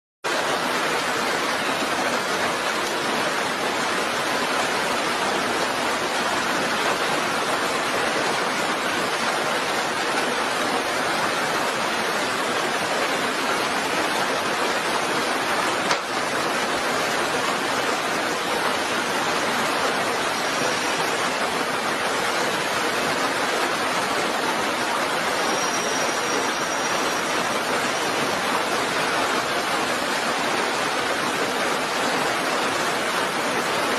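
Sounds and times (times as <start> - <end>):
steady rain falling: 0.3 - 33.9.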